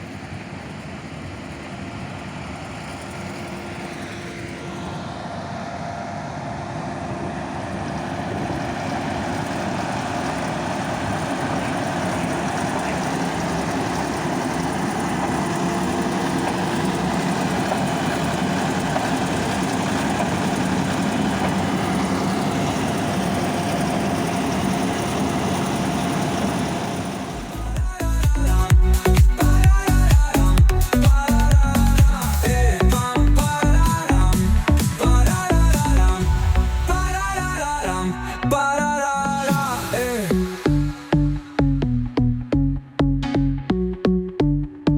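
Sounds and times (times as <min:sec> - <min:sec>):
large diesel engine running: 0:00.0 - 0:44.9.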